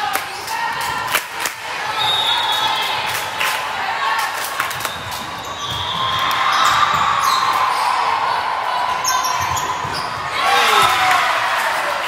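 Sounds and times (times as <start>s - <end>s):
spectators' voices: 0.0s - 12.0s.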